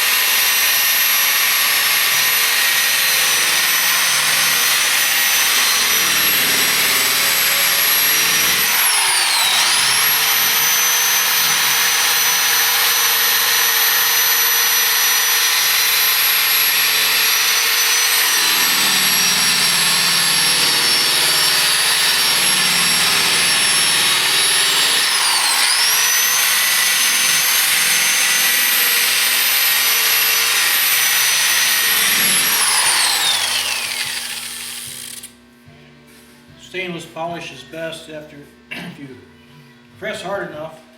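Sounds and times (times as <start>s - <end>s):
power buffer motor whining: 0.0s - 35.3s.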